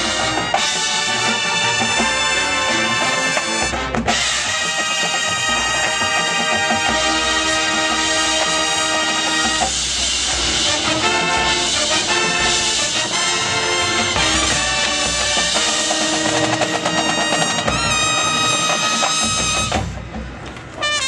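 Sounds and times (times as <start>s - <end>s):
drum and bugle corps playing: 0.0s - 21.0s.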